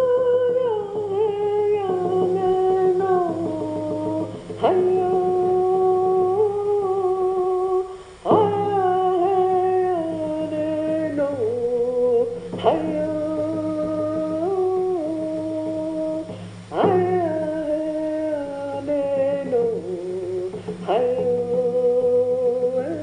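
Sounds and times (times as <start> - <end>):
person humming long notes: 0.0 - 23.0.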